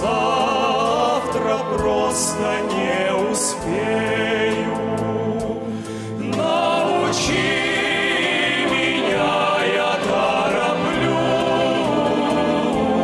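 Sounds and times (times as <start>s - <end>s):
instrumental accompaniment: 0.0s - 13.0s
vocal ensemble singing: 0.0s - 13.0s.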